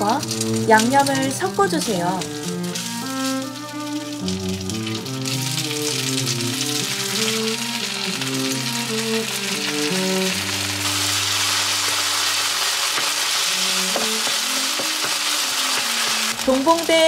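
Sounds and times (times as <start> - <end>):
rice and sauce sizzling in a pan: 0.0 - 17.0
spatula stirring in a pan: 2.4 - 16.6.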